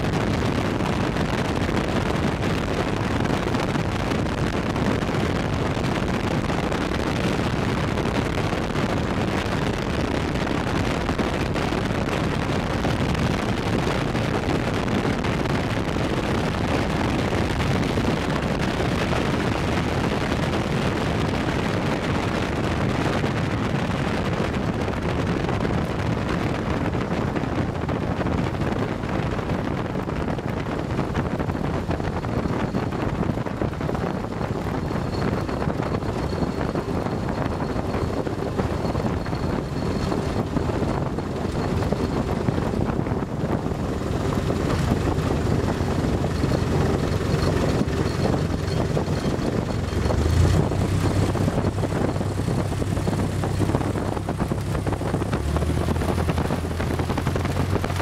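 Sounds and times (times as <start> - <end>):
rush of wind: 0.0 - 58.0.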